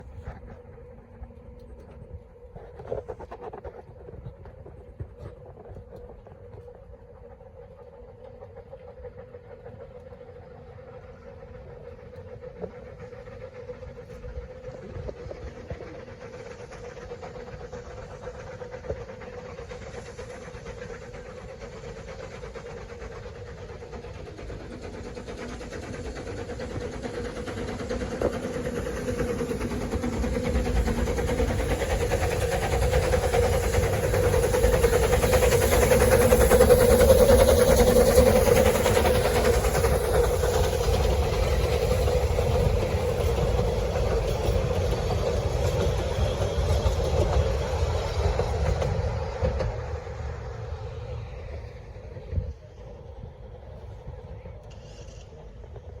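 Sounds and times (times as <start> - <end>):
train passing by: 0.0 - 56.0.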